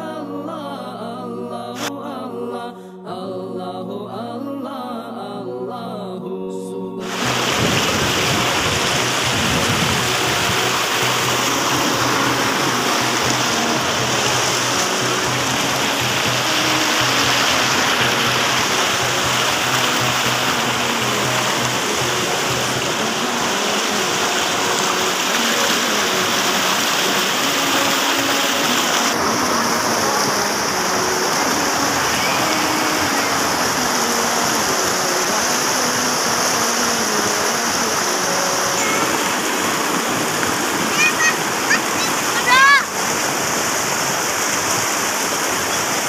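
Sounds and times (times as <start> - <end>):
river water rushing over rocks: 7.0 - 46.0.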